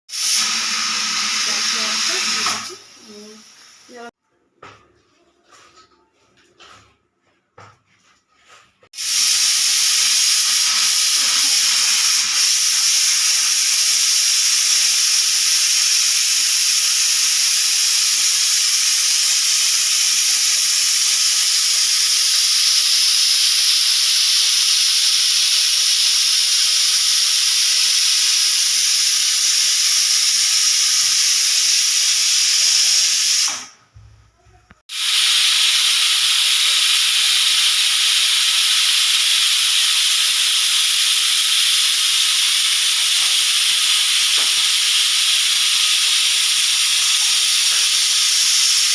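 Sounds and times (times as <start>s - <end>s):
pressure cooker whistle hissing: 0.1s - 4.1s, 9.0s - 33.8s, 34.9s - 48.9s.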